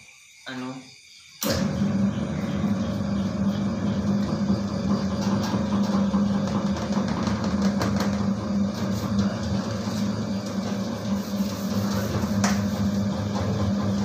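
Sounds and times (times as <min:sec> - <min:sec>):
dough mixer motor humming: 0:01.4 - 0:14.0.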